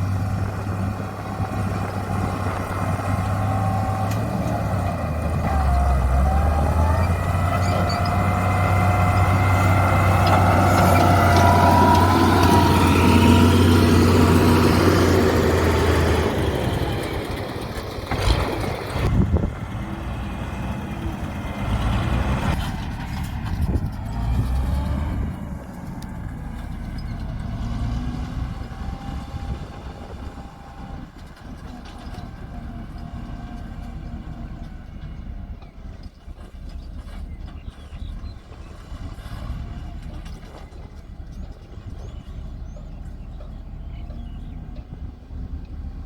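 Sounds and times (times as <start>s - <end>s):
diesel machine engine humming: 0.0s - 46.0s.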